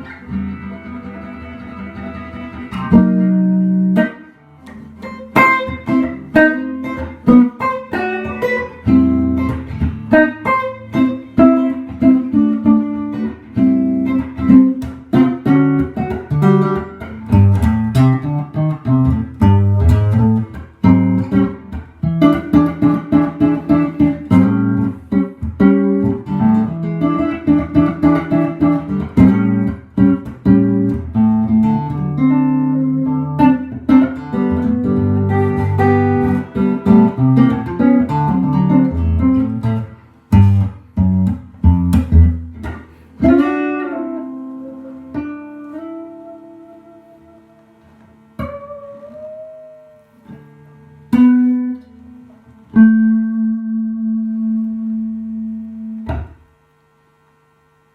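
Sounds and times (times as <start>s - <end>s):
electric guitar plucked notes and chords: 0.0s - 56.7s.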